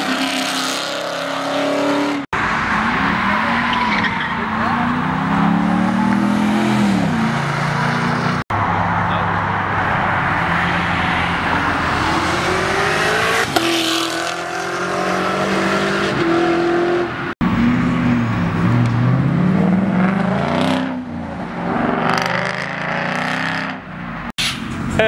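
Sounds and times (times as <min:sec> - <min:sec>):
car engines revving and accelerating: 0:00.0 - 0:25.0.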